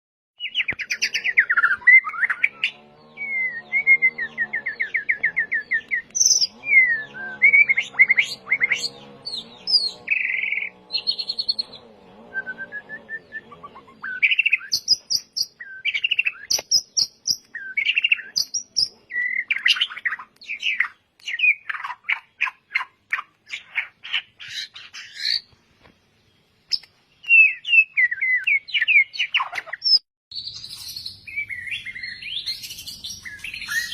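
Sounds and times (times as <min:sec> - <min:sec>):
bird singing varied song: 0:00.4 - 0:33.9.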